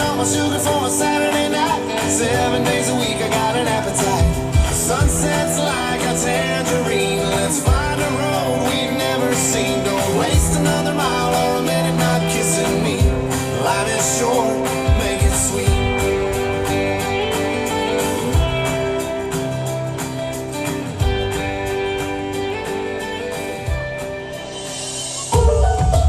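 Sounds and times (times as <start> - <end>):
country music with guitar: 0.0 - 26.0
steady drum beat: 0.0 - 26.0.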